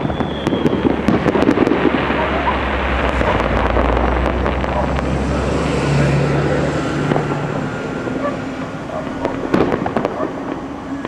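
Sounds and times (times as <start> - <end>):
deep rumble: 0.0 - 11.0
fireworks bangs: 0.0 - 11.0
fireworks crackling: 0.0 - 11.0.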